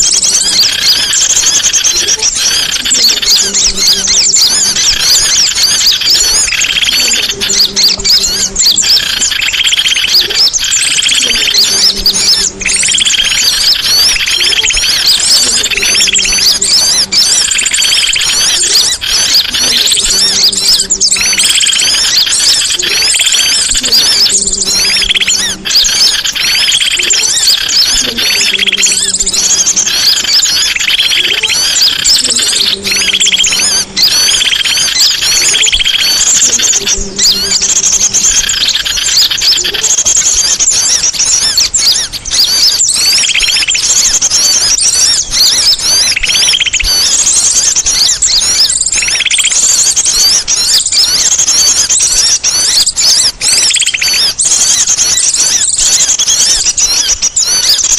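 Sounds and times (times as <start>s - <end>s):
songbird chirping and trilling: 0.0s - 57.9s.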